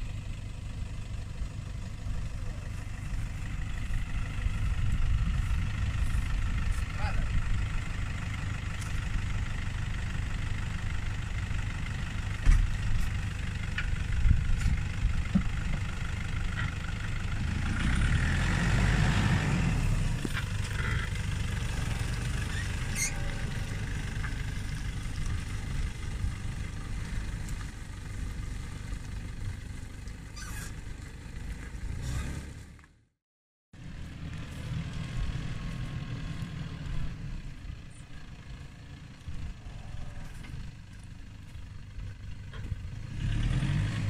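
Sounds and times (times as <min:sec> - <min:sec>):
truck engine running: 0:00.0 - 0:33.1, 0:33.8 - 0:44.0.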